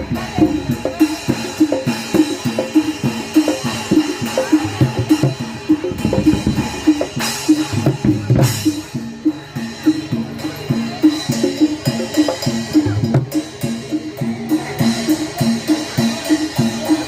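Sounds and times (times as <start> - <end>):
kendang drums: 0.0 - 17.0.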